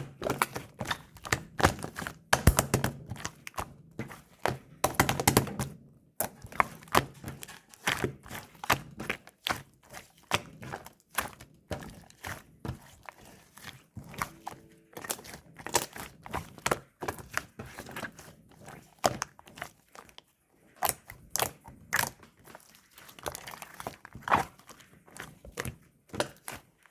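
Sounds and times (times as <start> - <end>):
slime squished by hand: 0.2 - 26.8.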